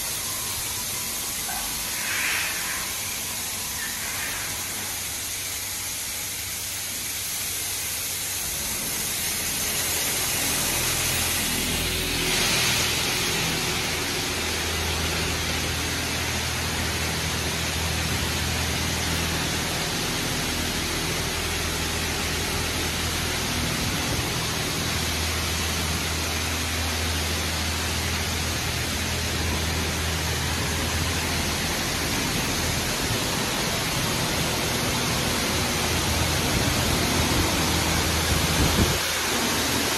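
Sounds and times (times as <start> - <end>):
high-pressure water spray hiss: 0.0 - 39.9.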